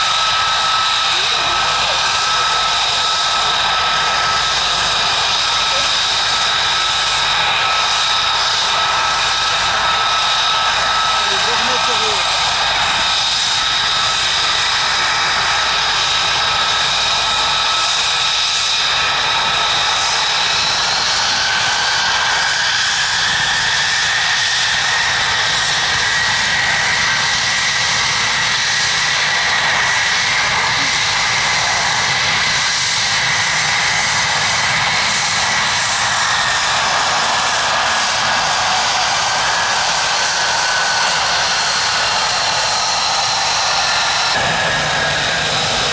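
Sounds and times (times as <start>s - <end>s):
jet engines whining: 0.0s - 45.9s.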